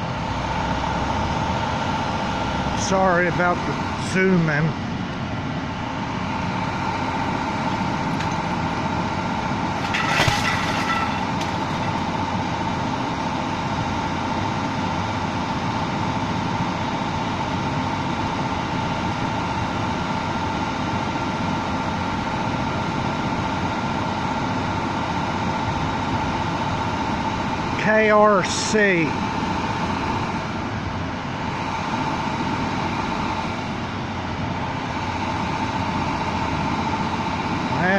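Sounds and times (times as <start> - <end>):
truck engine drone with whine: 0.0 - 37.9.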